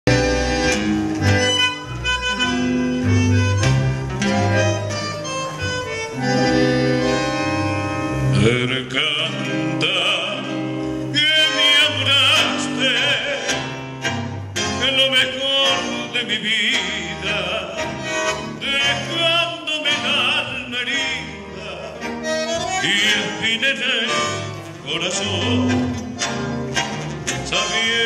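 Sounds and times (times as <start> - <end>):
tango band playing: 0.1 - 28.0.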